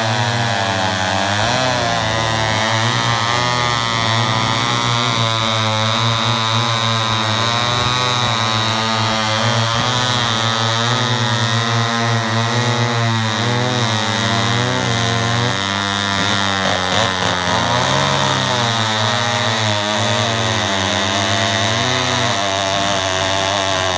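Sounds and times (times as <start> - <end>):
chainsaw engines running: 0.0 - 23.9.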